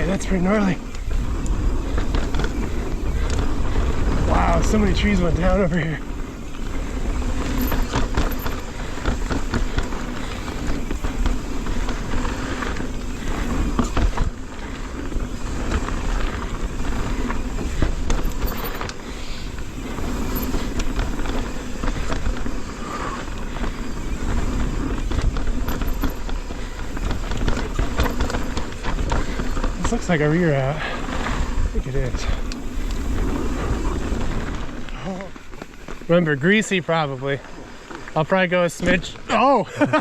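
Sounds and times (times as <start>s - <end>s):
bike clattering over bumps: 0.0s - 36.8s
bike tyres rumbling on dirt: 0.0s - 40.0s.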